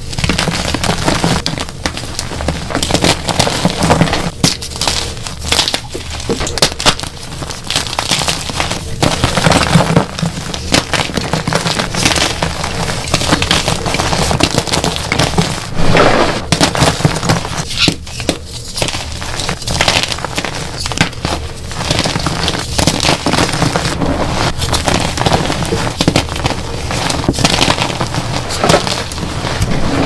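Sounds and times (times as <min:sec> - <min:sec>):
chalk crunching and crackling: 0:00.0 - 0:30.0.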